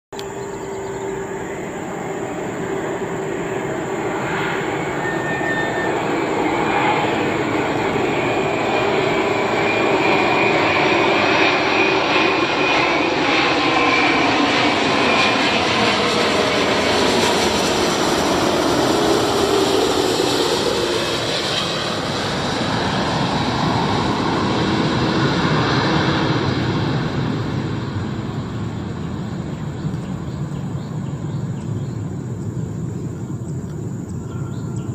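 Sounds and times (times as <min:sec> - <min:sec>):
jet engines flying past: 0:00.1 - 0:34.9.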